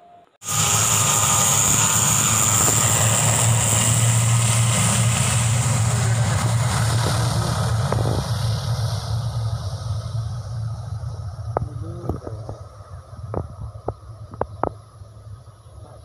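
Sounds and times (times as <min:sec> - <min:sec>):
high engine hiss: 0:00.4 - 0:15.8
turboprop propeller drone: 0:00.4 - 0:16.0.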